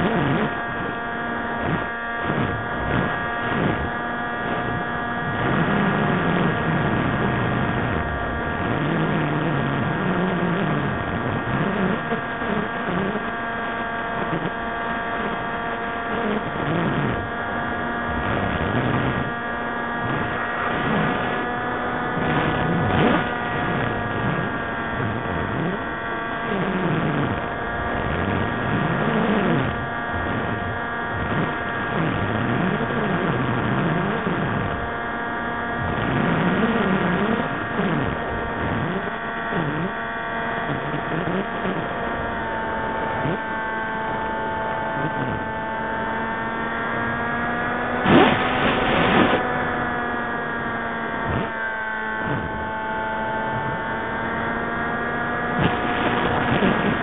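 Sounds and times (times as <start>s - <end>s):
electric motor and propeller whine: 0.0s - 57.0s.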